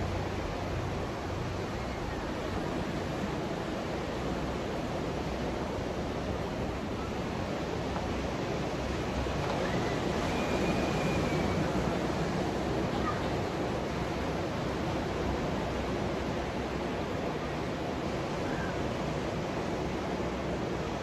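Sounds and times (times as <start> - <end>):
ocean surf breaking on shore: 0.0 - 21.0.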